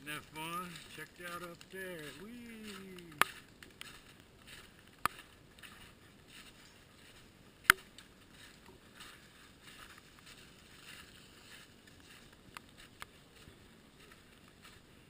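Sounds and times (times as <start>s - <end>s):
footsteps squelching through slush: 0.2s - 15.0s.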